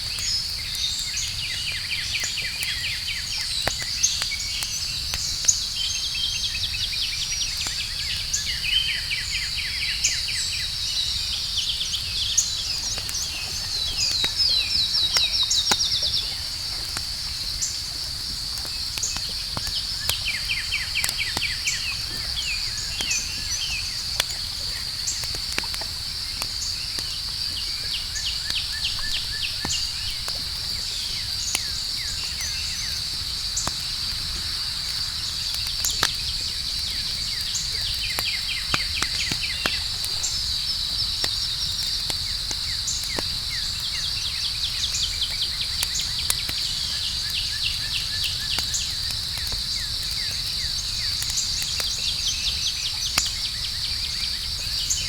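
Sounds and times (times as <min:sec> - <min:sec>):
campfire crackling and popping: 0:00.0 - 0:55.0
night insects trilling: 0:00.0 - 0:55.0.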